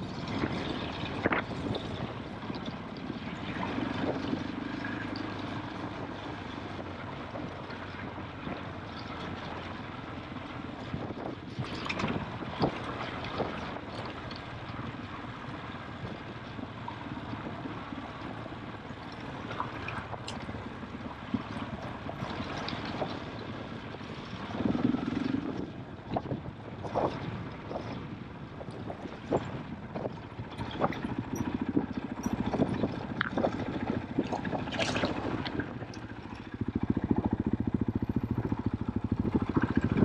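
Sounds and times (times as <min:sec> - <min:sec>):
motorcycle engine running: 0:00.0 - 0:40.0
wind on microphone: 0:00.0 - 0:40.0.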